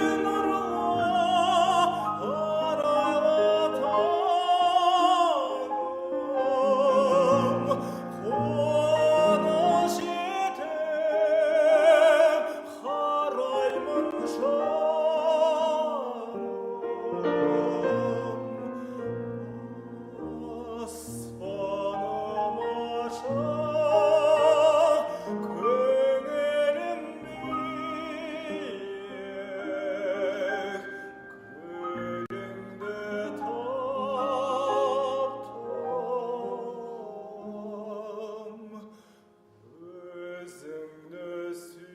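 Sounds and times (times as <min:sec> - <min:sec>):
operatic voice singing: 0:00.0 - 0:38.9
piano accompaniment: 0:00.0 - 0:41.9.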